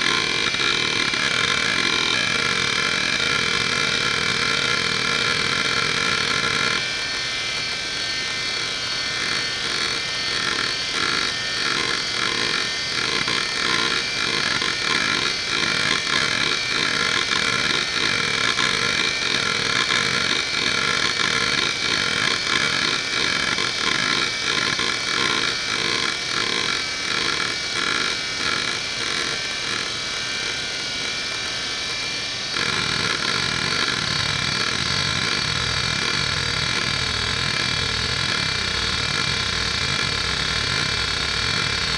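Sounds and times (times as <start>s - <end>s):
spinning platters whine: 0.0s - 41.9s.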